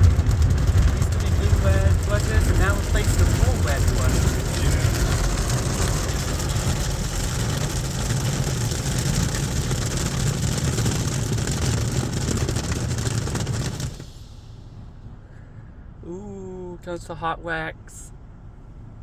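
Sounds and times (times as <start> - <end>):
car wash water and machinery: 0.0 - 19.0.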